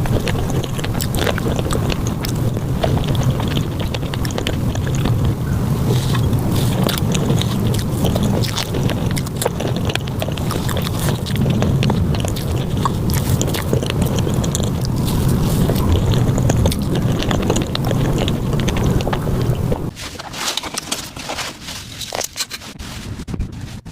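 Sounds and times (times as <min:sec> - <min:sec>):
sped-up chewing clicks and smacks: 0:00.0 - 0:19.9
steady low rumble: 0:00.0 - 0:19.9.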